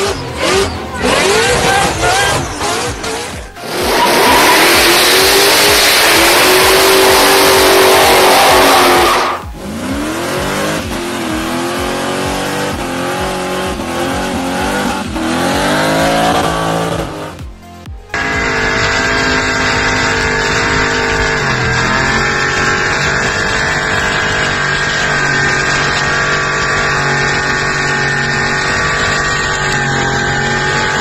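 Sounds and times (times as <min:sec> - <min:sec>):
car engine at high revs: 0:00.0 - 0:31.0
car engine revving: 0:00.0 - 0:31.0.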